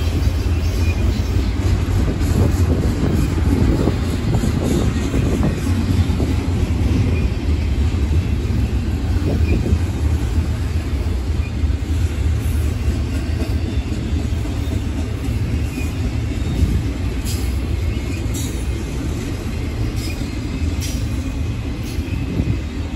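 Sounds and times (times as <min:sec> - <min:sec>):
freight train rumbling past: 0:00.0 - 0:22.9.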